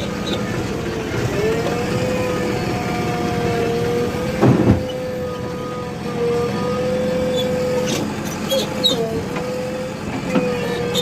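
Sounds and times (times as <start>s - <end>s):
heavy vehicle engine with whine: 0.0s - 11.0s.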